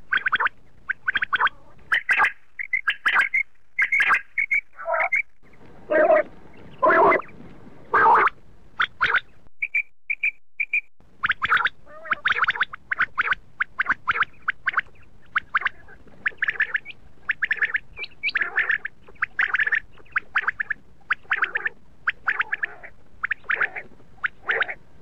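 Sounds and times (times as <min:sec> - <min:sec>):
quail calling: 0:00.0 - 0:07.3, 0:07.9 - 0:24.8.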